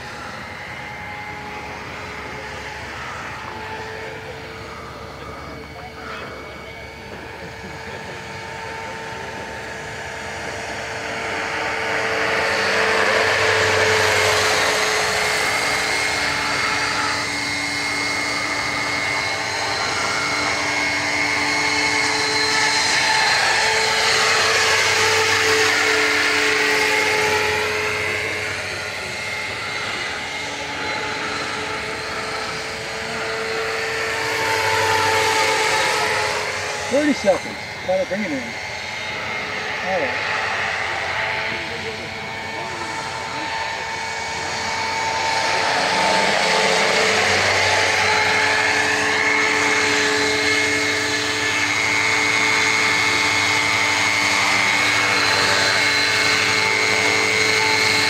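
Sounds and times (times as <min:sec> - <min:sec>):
electric motor whine: 0:00.0 - 0:58.0
rotor blades rushing: 0:00.0 - 0:58.0.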